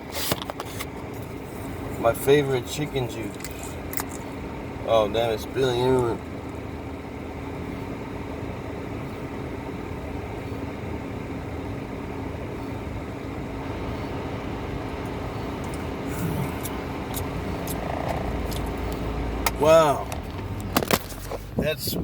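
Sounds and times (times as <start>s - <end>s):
car engine hum inside cabin: 0.0s - 22.0s.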